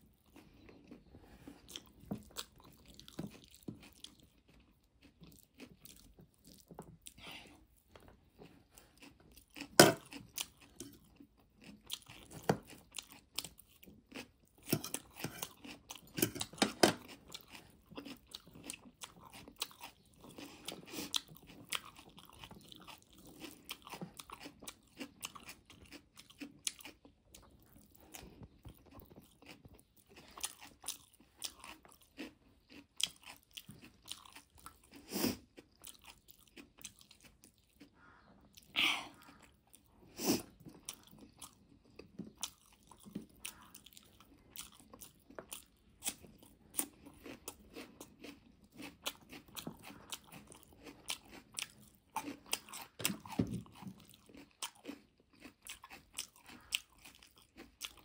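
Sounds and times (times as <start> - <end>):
person chewing noodles: 0.0 - 58.0.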